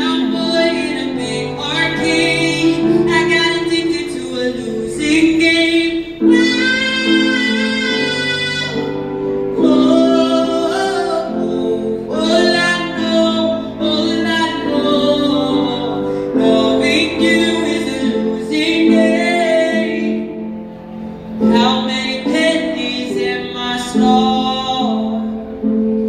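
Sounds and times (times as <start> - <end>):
person singing into a microphone: 0.0 - 20.5, 21.4 - 26.0.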